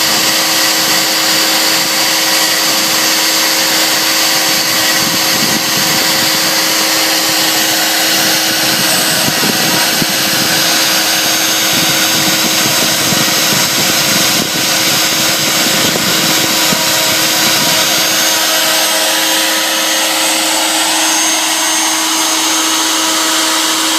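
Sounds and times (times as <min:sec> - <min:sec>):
broad rushing noise: 0:00.0 - 0:23.9
router spindle humming: 0:00.0 - 0:23.9.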